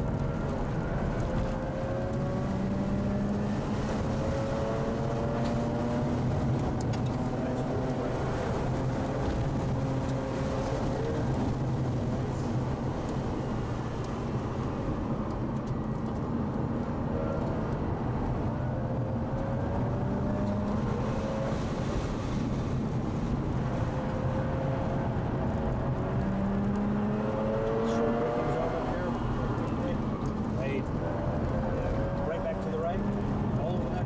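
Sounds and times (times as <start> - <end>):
rotary engine from inside car: 0.0 - 34.0
tyre and wind noise: 0.0 - 34.0.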